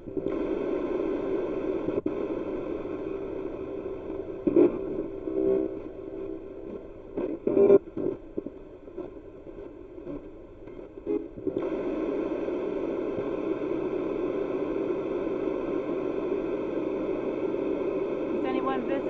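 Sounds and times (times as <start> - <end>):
spirit box radio static: 0.0 - 19.0.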